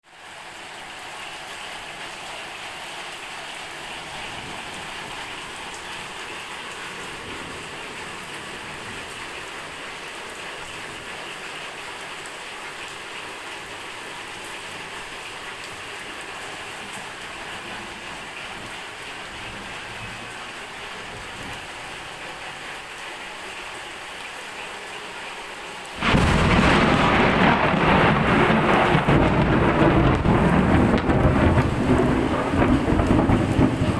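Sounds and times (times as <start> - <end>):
steady rainfall: 0.0 - 33.9.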